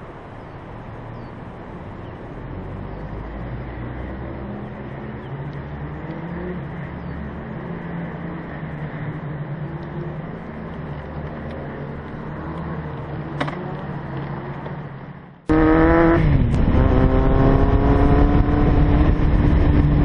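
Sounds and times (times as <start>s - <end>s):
wind and road noise: 0.0s - 20.0s
motorcycle engine at low revs: 1.1s - 20.0s.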